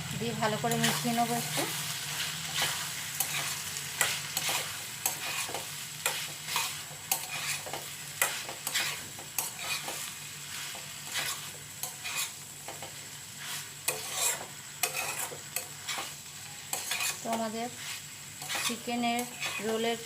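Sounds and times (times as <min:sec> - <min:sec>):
food sizzling: 0:00.0 - 0:20.0
spatula scraping a frying pan: 0:00.7 - 0:20.0.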